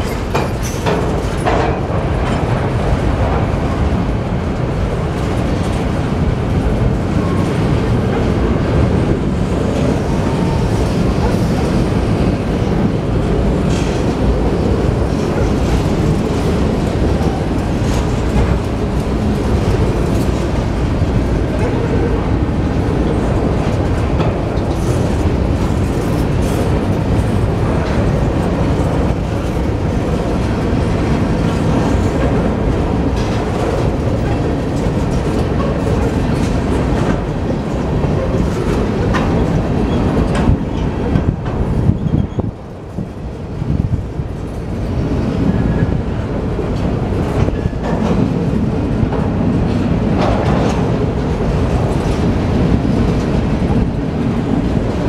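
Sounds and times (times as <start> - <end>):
clickety-clack at rail joints: 0.0 - 55.0
steel wheels rumbling on rail: 0.0 - 55.0.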